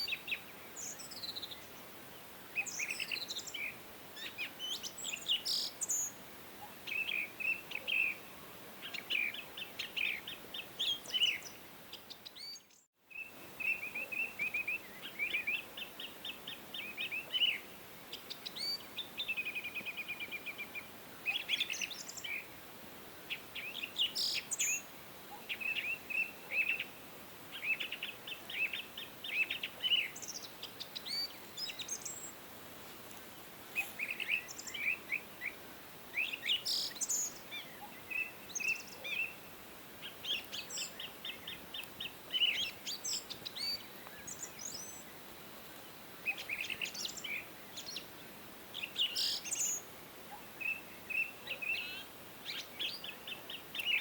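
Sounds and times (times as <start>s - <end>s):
faint background hiss: 0.0s - 54.0s
songbirds chirping: 0.0s - 54.0s.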